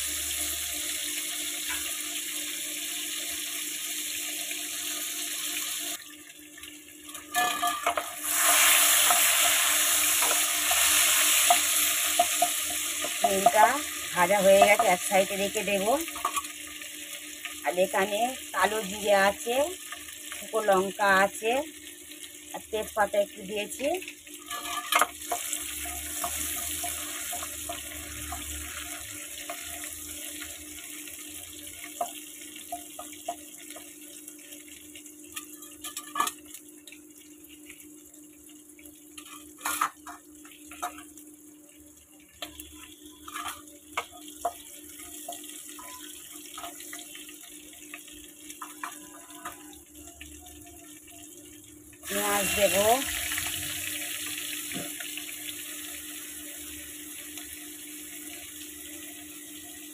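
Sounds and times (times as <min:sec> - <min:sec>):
oil sizzling in frying pan: 0:00.0 - 0:59.9.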